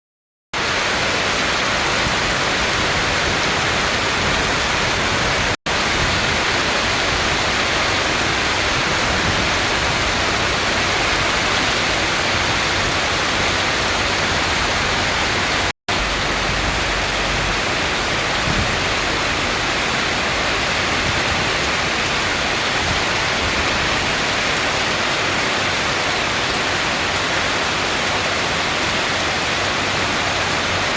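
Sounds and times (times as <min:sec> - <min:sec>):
heavy rain pouring: 0:00.6 - 0:30.9.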